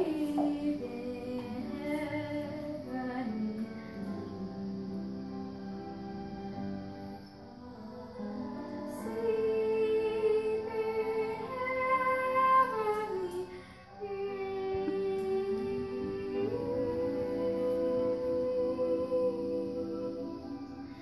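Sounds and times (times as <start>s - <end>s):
woman singing long notes: 0.0s - 5.9s, 7.6s - 21.0s
piano accompaniment: 0.0s - 21.0s.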